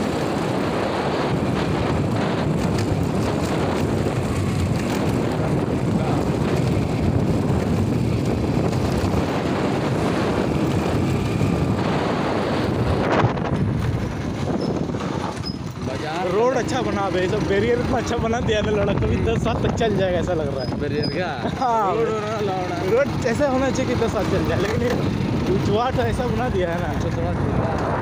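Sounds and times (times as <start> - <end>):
motorcycle engine drone: 0.0 - 28.0
wind buffeting microphone: 0.0 - 28.0.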